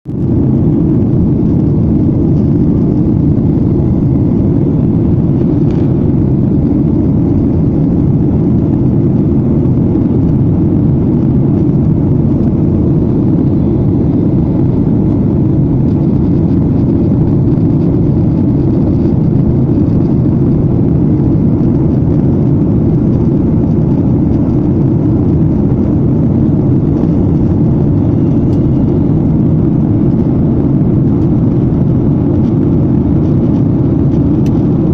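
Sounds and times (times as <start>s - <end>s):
airliner cabin drone: 0.1s - 34.9s.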